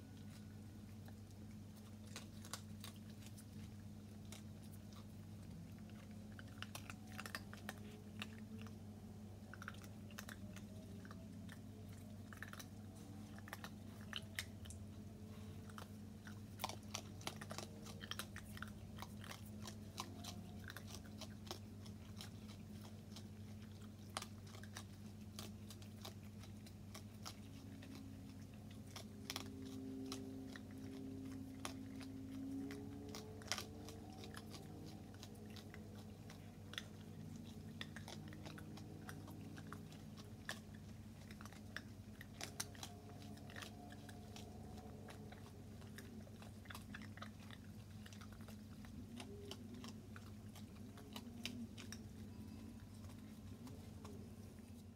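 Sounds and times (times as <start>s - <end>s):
raccoons crunching kibble: 0.0s - 54.9s
steady low hum: 0.0s - 54.9s.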